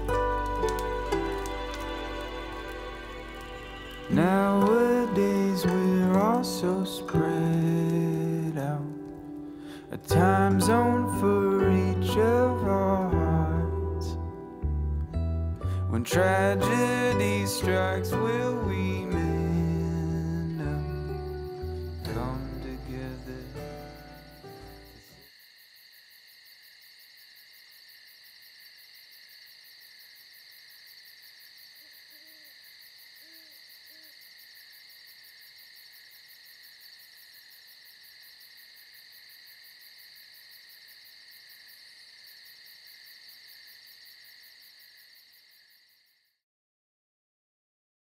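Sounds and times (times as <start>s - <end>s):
insects chirping: 0.0s - 14.6s, 15.6s - 46.4s.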